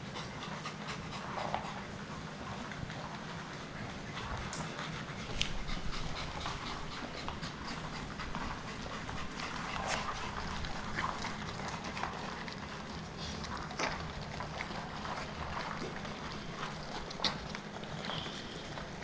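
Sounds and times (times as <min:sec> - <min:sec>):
puppies crunching dry kibble: 0:00.0 - 0:19.0.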